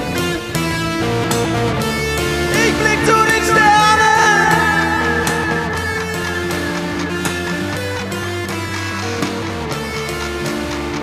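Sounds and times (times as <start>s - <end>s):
bass guitar: 0.0s - 11.0s
drums: 0.0s - 11.0s
strummed guitars: 0.0s - 11.0s.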